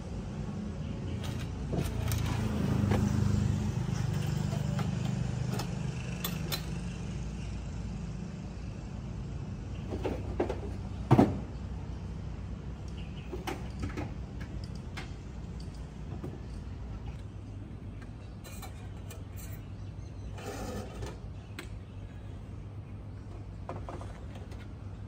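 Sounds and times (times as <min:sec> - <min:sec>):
low engine-like hum: 0:00.0 - 0:25.0.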